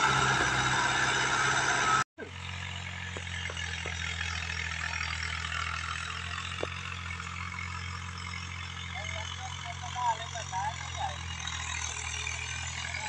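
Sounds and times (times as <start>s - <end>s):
low engine hum: 0.0s - 13.0s
tractor engine under load: 0.0s - 13.0s.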